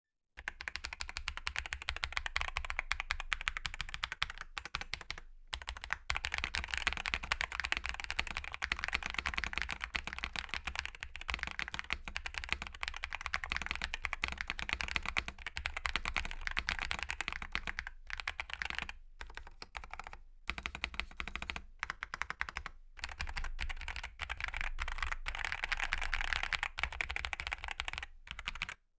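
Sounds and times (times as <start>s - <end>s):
fast mechanical keyboard typing: 0.4s - 28.8s.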